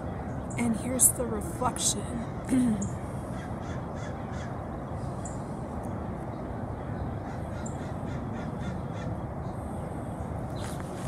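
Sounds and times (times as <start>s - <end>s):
birds calling: 0.0s - 11.0s
steady low rumble: 0.0s - 11.0s.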